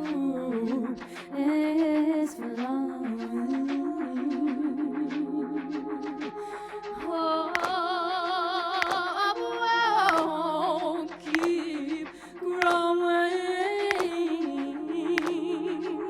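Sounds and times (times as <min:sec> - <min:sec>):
sparse beat: 0:00.0 - 0:16.0
sustained synth backing: 0:00.0 - 0:16.0
woman singing with vibrato: 0:00.0 - 0:16.0.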